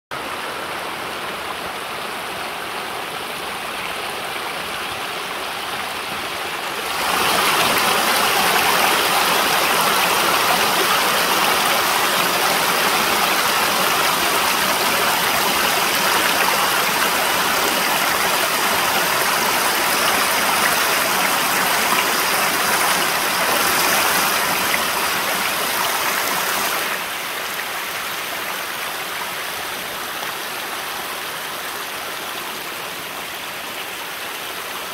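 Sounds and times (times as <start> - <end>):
stream rushing over stones: 0.1 - 34.9.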